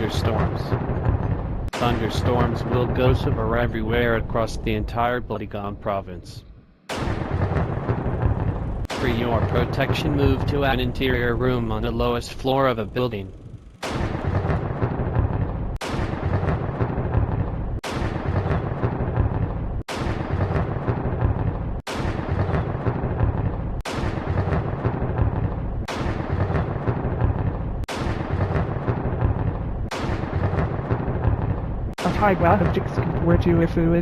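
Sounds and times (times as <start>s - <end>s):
thunder cracks and rumbling: 0.0s - 5.3s, 6.9s - 34.0s.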